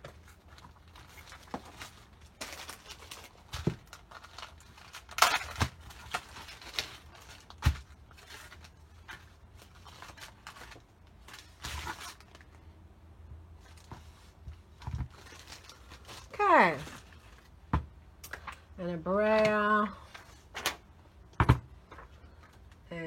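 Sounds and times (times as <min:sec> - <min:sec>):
rustling of craft supplies: 0:00.0 - 0:23.0.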